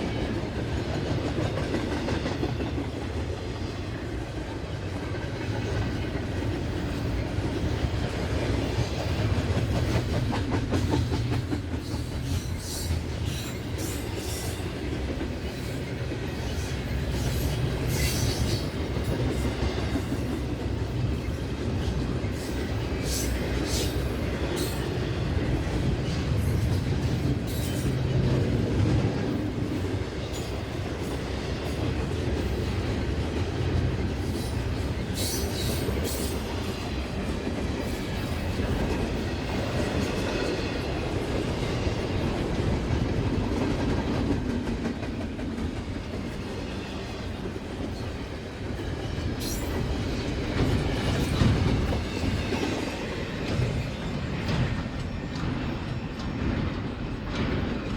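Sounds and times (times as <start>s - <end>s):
freight train rumbling past: 0.0s - 57.9s
wheels clattering on rails: 0.0s - 57.9s.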